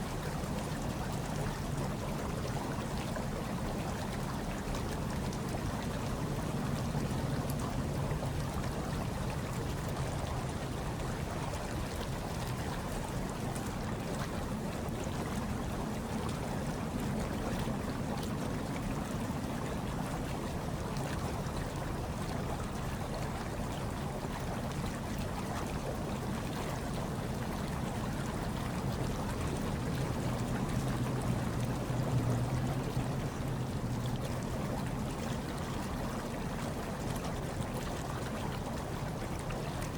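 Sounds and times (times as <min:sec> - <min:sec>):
hot tub water churning and bubbling: 0:00.0 - 0:39.9.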